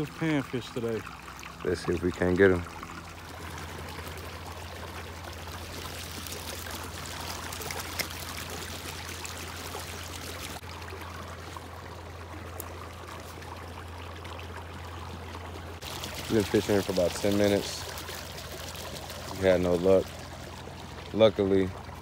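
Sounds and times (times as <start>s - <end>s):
trickling water: 0.0s - 22.0s.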